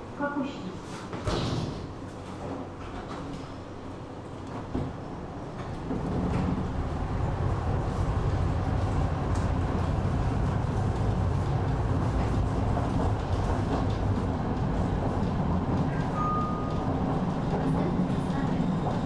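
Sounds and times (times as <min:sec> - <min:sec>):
tram wheels rumbling on rails: 0:02.1 - 0:19.0.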